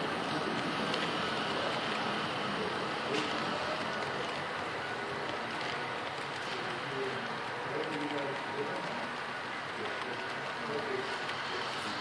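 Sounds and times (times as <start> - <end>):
model train rumbling on track: 0.0 - 12.0.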